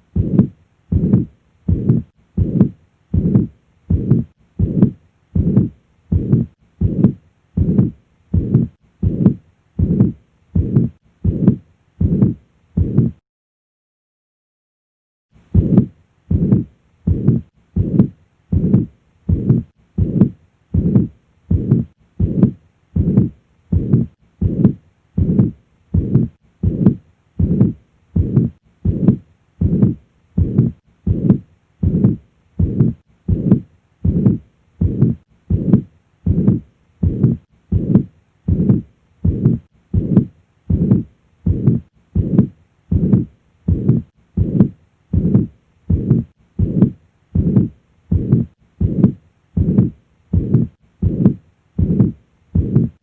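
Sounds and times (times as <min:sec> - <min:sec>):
heartbeat with pansystolic murmur: 0:00.0 - 0:13.2, 0:15.4 - 0:53.0.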